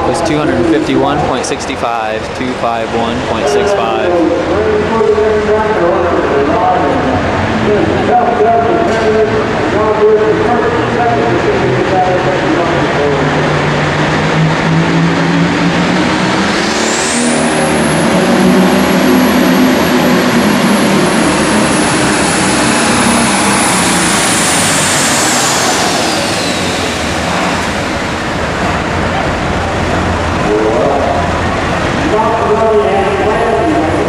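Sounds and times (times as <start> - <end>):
diesel engine under full load: 0.0 - 34.0
turbocharger whine: 0.0 - 34.0.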